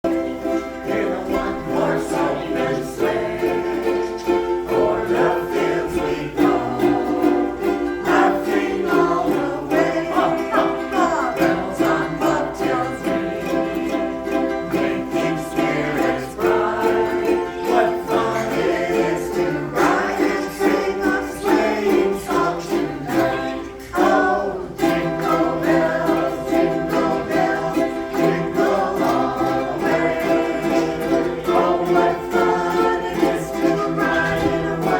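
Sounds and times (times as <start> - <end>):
ukuleles strumming chords: 0.0 - 34.9.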